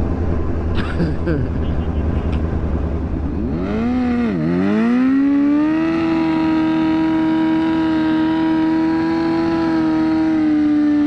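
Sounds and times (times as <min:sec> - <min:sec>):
motorcycle engine revving: 0:01.7 - 0:11.0.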